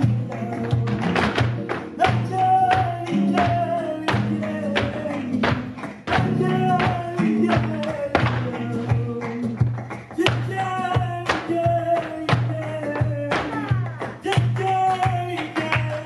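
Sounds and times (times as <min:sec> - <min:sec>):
guitar: 0:00.0 - 0:16.0
sharp rhythmic strikes: 0:00.0 - 0:16.0.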